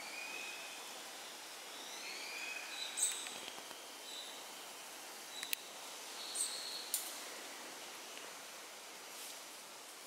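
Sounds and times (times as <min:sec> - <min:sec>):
outdoor ambience: 0:00.0 - 0:10.0.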